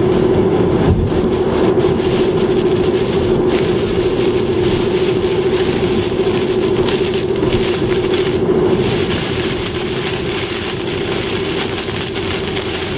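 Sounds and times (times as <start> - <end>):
car cabin hum: 0.0 - 12.9
heavy rain on car windshield: 0.0 - 12.9
road noise: 0.0 - 12.9.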